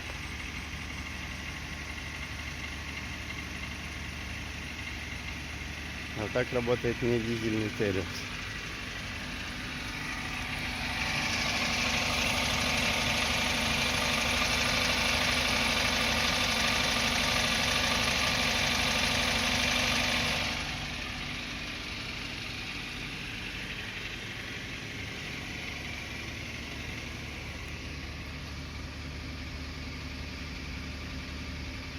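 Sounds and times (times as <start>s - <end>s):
petrol engine clattering: 0.0s - 28.6s.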